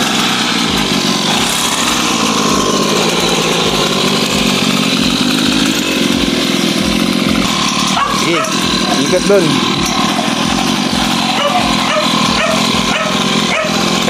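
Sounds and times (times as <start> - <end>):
two-stroke dirt bike engine: 0.0 - 14.0.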